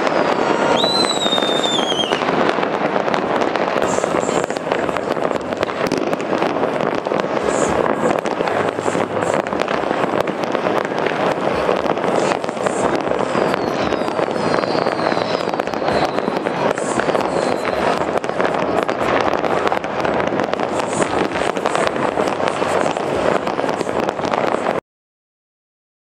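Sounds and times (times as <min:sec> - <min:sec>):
firework whistles gliding downward: 0:00.0 - 0:24.8
fireworks bangs and crackling: 0:00.0 - 0:24.8.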